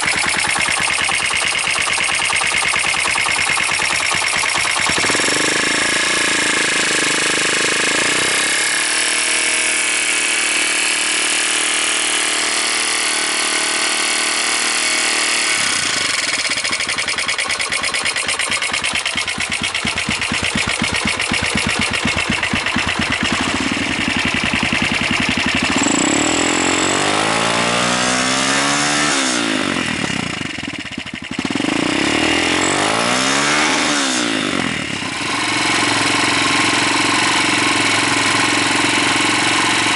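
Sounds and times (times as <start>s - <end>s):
motorcycle engine idling: 0.0s - 12.6s, 13.3s - 39.9s
motorcycle engine revving: 0.0s - 39.9s.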